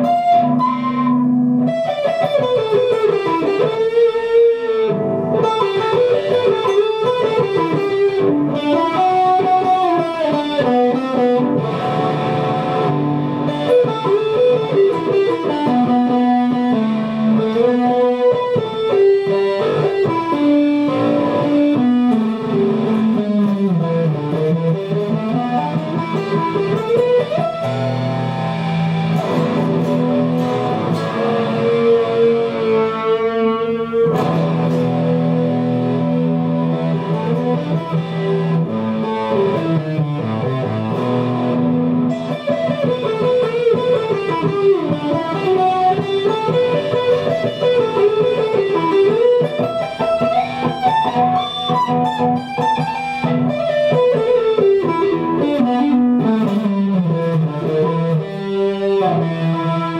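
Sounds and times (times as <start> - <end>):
melodic electric guitar with effects: 0.0 - 59.9.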